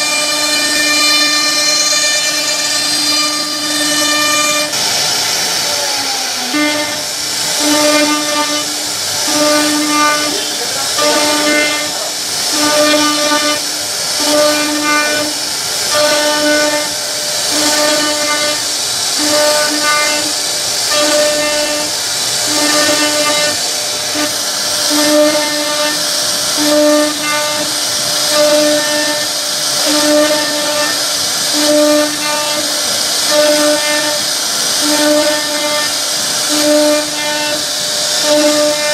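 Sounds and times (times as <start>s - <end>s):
humming tone of axis motors: 0.0s - 38.9s
router bit cutting wood hiss: 0.0s - 38.9s.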